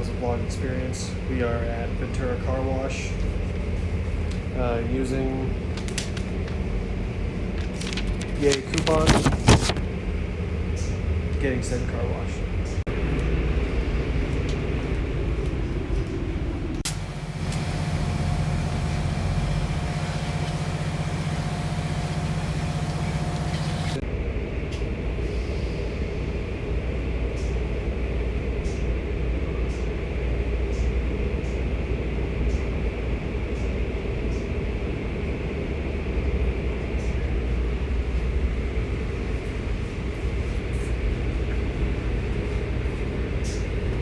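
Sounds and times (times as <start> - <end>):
car wash machinery hum: 0.0 - 44.0
low machinery rumble: 0.0 - 44.0.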